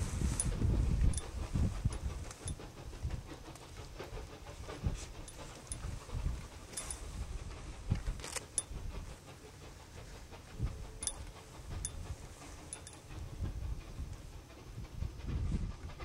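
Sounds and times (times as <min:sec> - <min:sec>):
distant steam locomotive chuffing: 0:00.0 - 0:16.0.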